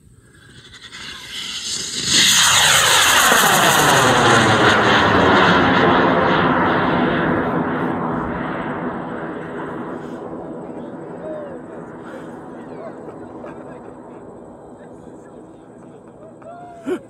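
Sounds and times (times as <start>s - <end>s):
rocket motor roaring: 0.0s - 16.1s.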